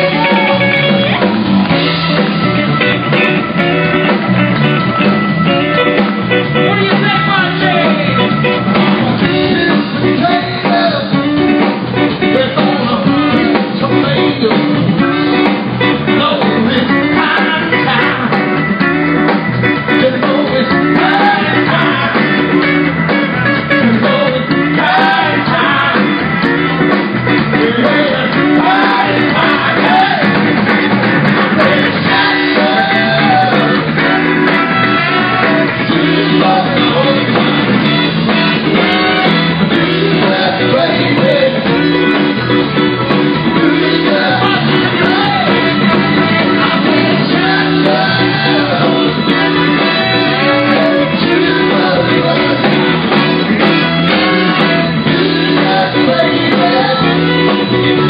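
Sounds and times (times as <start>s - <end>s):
man singing lead vocal: 0.0s - 1.3s, 6.5s - 18.6s, 19.7s - 26.8s, 27.4s - 42.8s, 43.4s - 58.0s
drums: 0.0s - 58.0s
electric guitars: 0.0s - 58.0s
keyboard: 0.0s - 58.0s.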